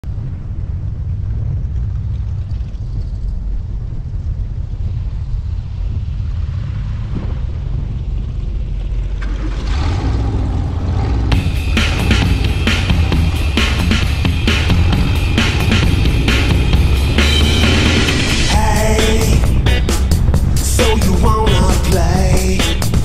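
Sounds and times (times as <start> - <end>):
engine deep rumble: 0.0 - 23.0.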